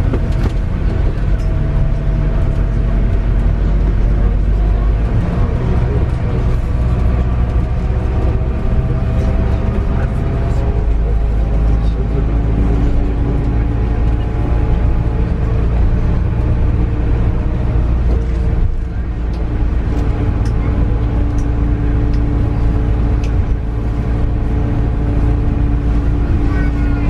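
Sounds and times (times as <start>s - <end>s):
bus engine drone: 0.0s - 27.0s
constant hum: 0.0s - 27.0s
road rumble: 0.0s - 27.0s.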